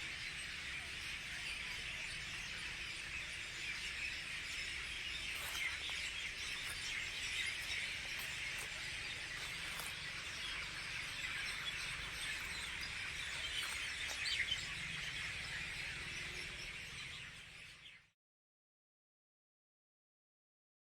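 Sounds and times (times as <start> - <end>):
flock of birds chirping: 0.0 - 18.1.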